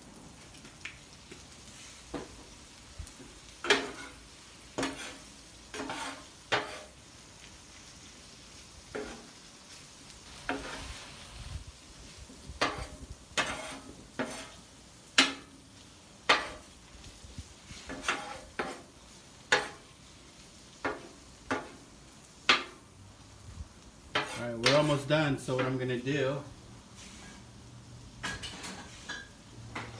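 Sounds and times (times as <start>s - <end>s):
frying sizzle: 0.0s - 29.9s
metal spatula scraping on griddle: 3.4s - 7.0s, 8.5s - 23.3s, 24.0s - 29.9s.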